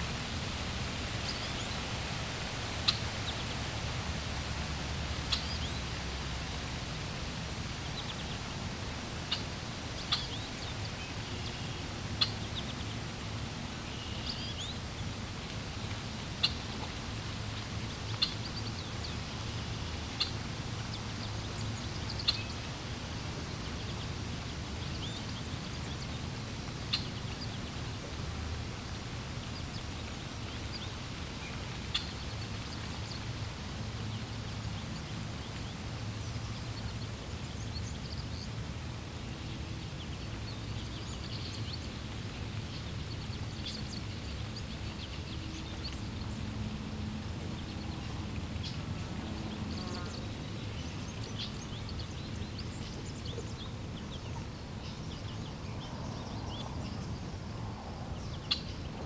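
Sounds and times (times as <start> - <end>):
flowing water: 0.0 - 59.0.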